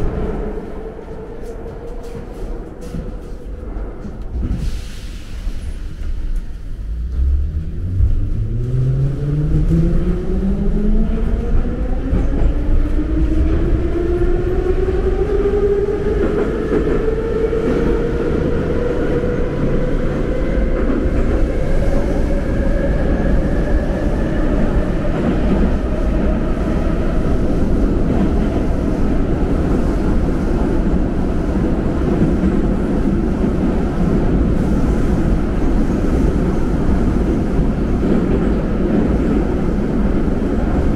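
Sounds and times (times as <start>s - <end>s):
train car rumbling on rails: 0.0s - 40.9s.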